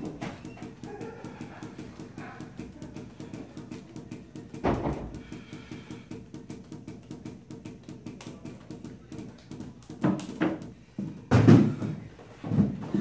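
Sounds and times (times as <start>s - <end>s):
balls bouncing on tile floor: 0.0s - 13.0s.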